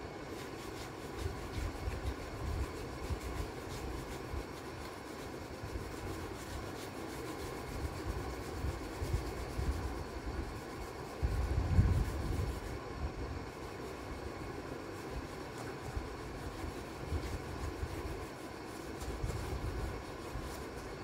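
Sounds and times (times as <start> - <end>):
oil pastel scraping on paper: 0.0 - 21.0.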